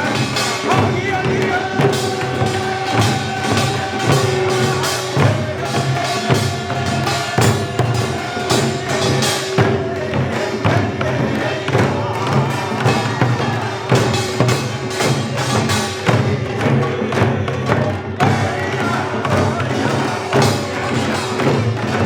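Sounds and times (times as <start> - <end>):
percussion ensemble playing: 0.0 - 22.0.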